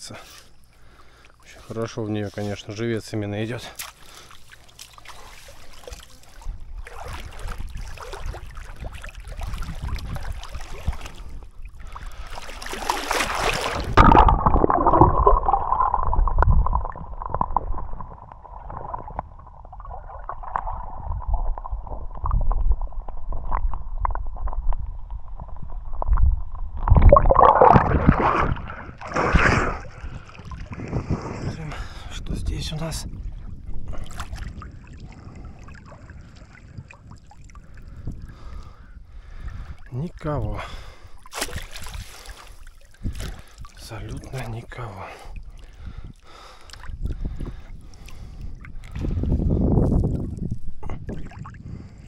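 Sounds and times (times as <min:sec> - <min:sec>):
water splashes: 0:00.0 - 0:24.6, 0:26.7 - 0:52.0
river water sloshing and gurgling: 0:00.0 - 0:31.7, 0:32.8 - 0:52.0.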